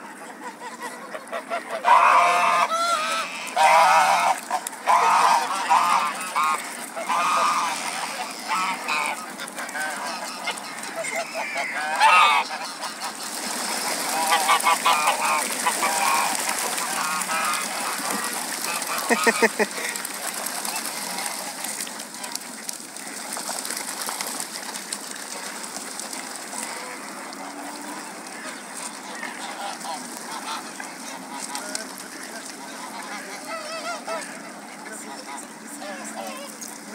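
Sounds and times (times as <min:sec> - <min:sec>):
geese honking: 0:00.0 - 0:23.6, 0:26.4 - 0:36.9
splashing water and wings: 0:00.3 - 0:36.9.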